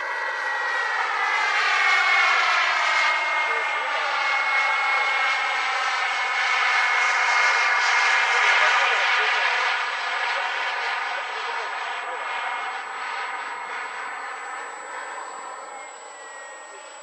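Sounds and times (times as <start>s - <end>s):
model jet turbine whining: 0.0s - 17.0s.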